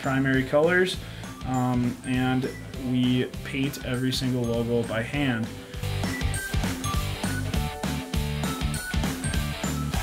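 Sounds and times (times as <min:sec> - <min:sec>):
upbeat rock music: 0:00.0 - 0:10.0.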